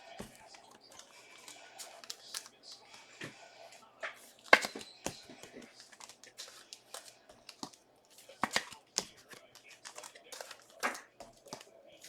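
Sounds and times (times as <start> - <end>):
foil wrappers crinkling and tearing: 0.0 - 3.2, 4.1 - 12.0
cards being handled: 0.0 - 12.0.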